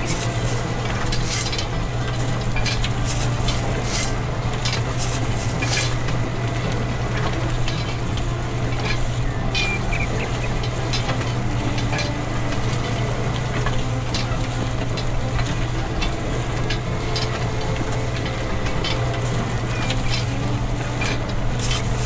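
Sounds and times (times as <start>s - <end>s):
grains rattling on mesh screen: 0.0s - 22.0s
small electric motor humming: 0.0s - 22.0s.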